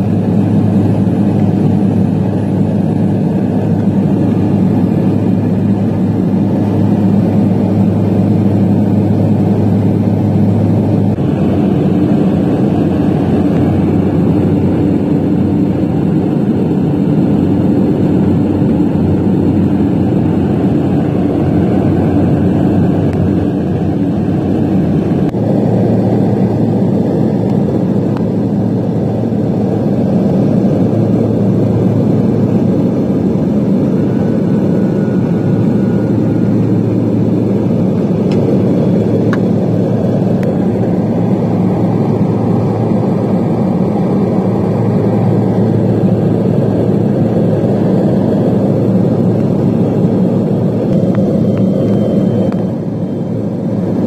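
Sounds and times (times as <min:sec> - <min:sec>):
airliner engines in cabin: 0:00.0 - 0:54.0.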